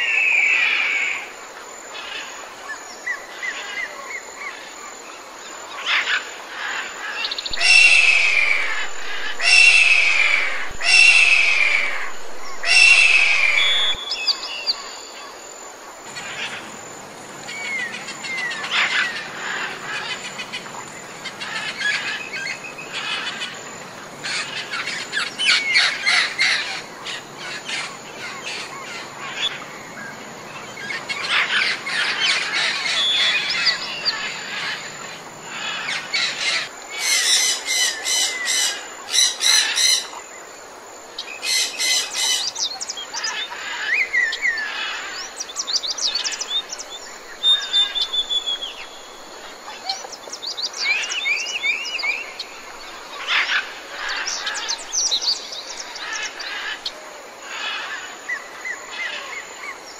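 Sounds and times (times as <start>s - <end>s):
birds chirping and calling: 5.9s - 15.2s, 17.4s - 40.2s, 41.2s - 59.8s.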